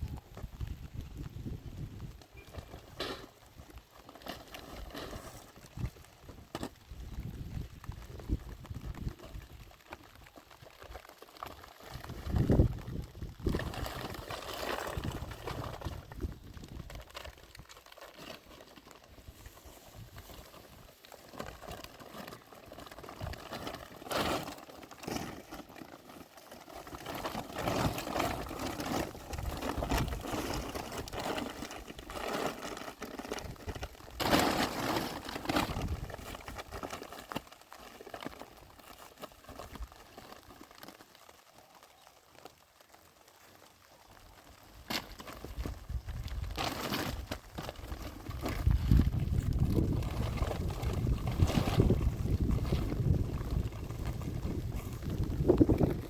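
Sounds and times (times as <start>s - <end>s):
plastic bags rustling: 0.0s - 56.0s.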